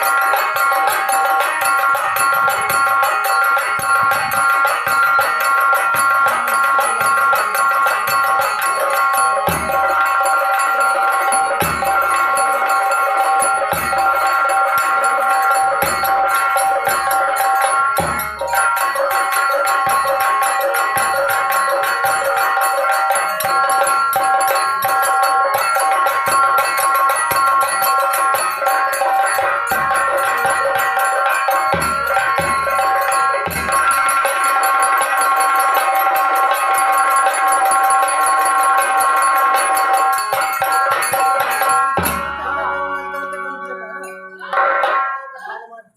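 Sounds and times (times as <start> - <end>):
drums beating: 0.0 - 45.8
held melodic tones: 0.0 - 45.9.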